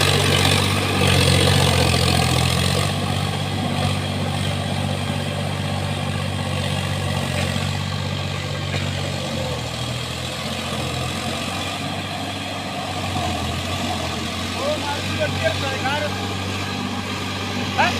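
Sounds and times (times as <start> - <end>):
tractor diesel engine running: 0.0 - 17.9.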